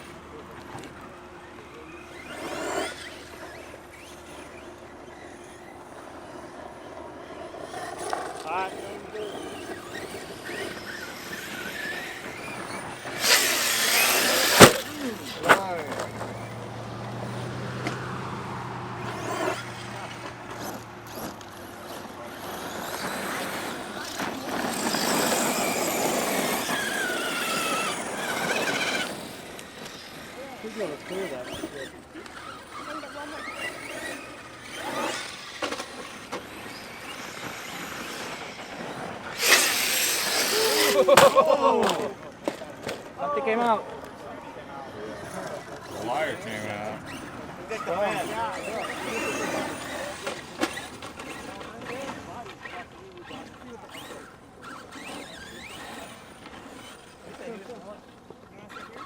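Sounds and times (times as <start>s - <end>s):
electric toy truck motors whining: 0.0s - 59.0s.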